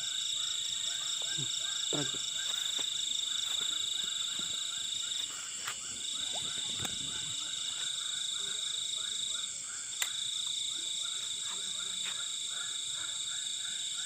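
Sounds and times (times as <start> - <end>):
frogs short repeated calls: 0.0 - 14.0
high-pitched insect trill: 0.0 - 14.0.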